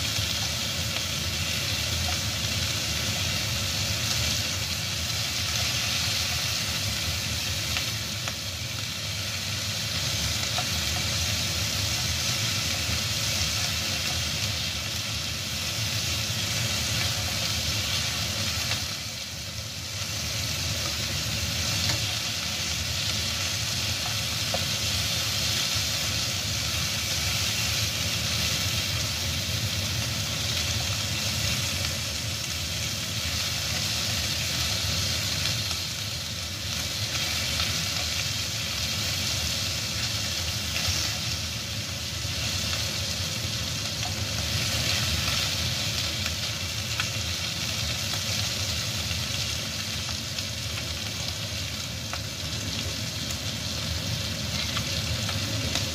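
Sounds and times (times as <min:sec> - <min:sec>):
meat sizzling in a wok: 0:00.0 - 0:55.9.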